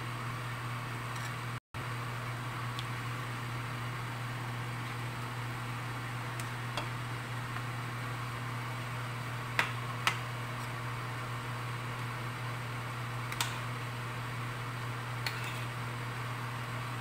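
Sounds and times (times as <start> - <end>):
kitchen room hum: 0.0 - 17.0.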